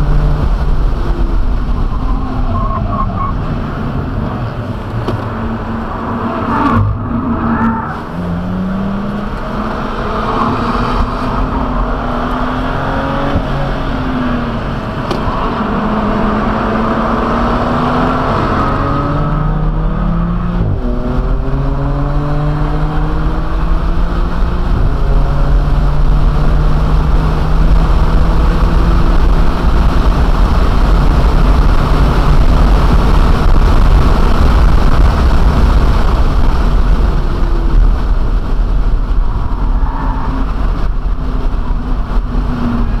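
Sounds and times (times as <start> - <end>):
car engine accelerating hard: 0.0 - 43.0
wind and tyre noise: 0.0 - 43.0.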